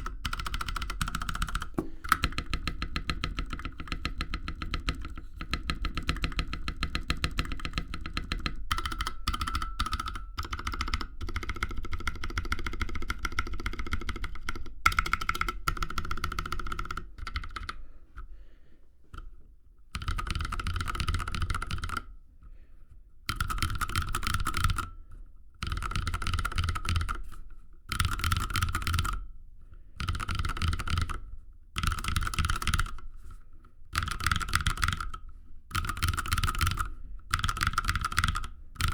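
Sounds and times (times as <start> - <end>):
mechanical keyboard typing: 0.0 - 17.8, 20.0 - 22.1, 23.3 - 24.9, 25.6 - 27.2, 27.9 - 29.2, 30.0 - 31.2, 31.8 - 33.0, 33.9 - 38.9.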